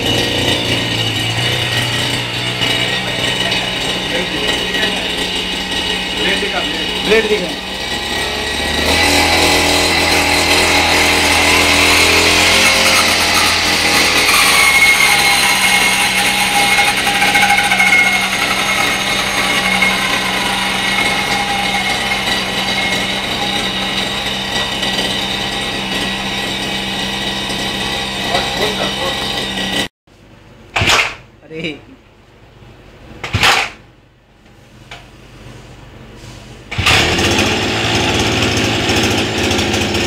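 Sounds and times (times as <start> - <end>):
brush cutter engine running: 0.0 - 29.9, 36.7 - 40.0.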